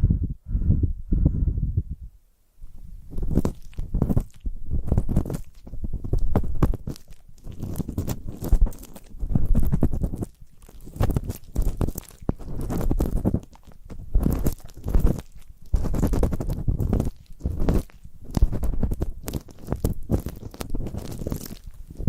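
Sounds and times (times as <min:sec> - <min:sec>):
ear pick scraping: 0:02.6 - 0:22.0.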